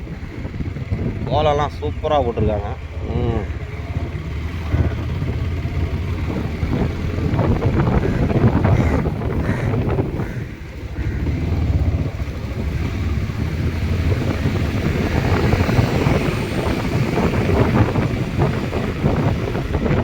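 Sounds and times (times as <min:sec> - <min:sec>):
motorcycle engine rumble: 0:00.0 - 0:20.0
wind buffeting microphone: 0:00.0 - 0:20.0.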